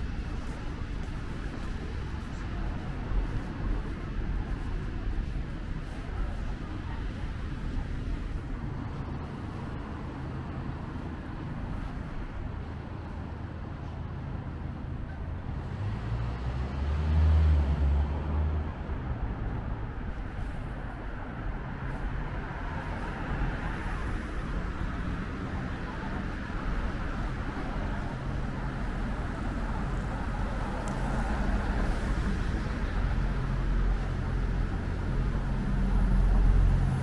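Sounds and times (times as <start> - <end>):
light road traffic: 0.0 - 37.0.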